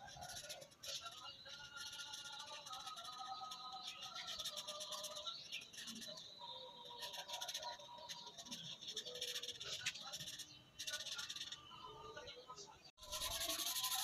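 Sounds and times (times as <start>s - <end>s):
marker scratching on paper: 0.0s - 11.6s, 13.0s - 14.0s.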